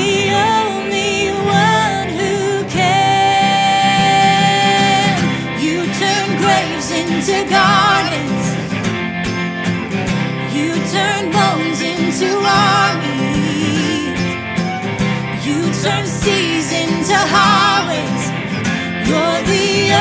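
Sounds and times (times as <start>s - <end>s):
woman singing: 0.0s - 8.7s, 10.4s - 20.0s
strummed guitar: 0.0s - 20.0s.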